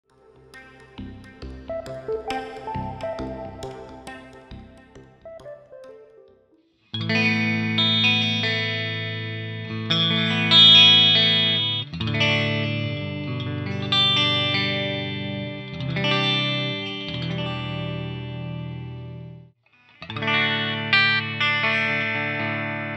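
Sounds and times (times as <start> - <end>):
electric guitar chords: 0.0 - 22.9.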